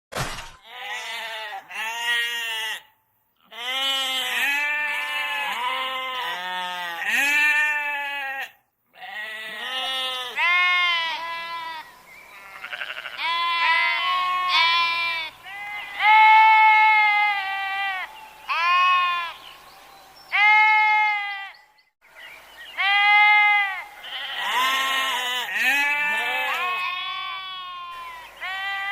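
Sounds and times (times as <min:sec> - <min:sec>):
sheep bleating: 0:00.6 - 0:19.4, 0:20.3 - 0:21.6, 0:22.8 - 0:28.9.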